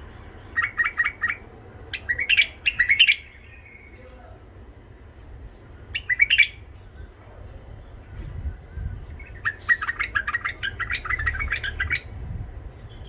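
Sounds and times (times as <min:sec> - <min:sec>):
bird chattering song: 0:00.0 - 0:04.3, 0:05.0 - 0:12.2.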